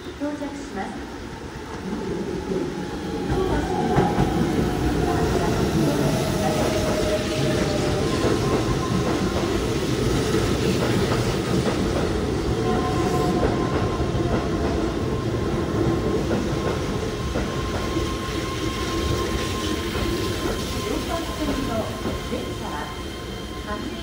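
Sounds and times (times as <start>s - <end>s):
train wheels rumbling on rails: 0.2s - 24.0s.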